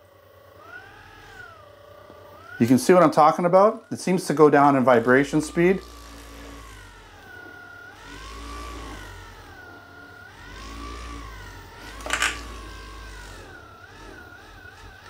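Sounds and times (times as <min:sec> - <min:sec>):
massage ball vibration motor humming: 0:00.0 - 0:15.0.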